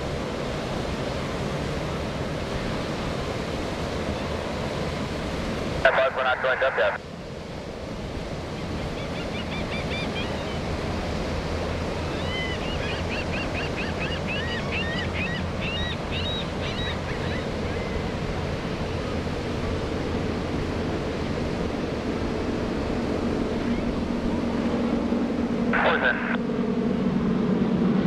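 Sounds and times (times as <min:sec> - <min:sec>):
distant propeller aircraft drone: 0:00.0 - 0:28.0
rushing background noise: 0:00.0 - 0:28.0.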